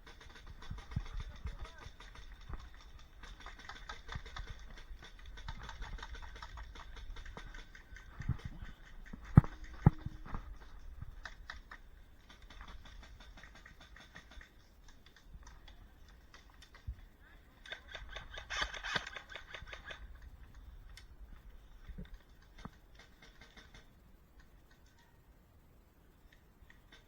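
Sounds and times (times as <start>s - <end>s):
rustling with light clicks: 0.0s - 25.3s.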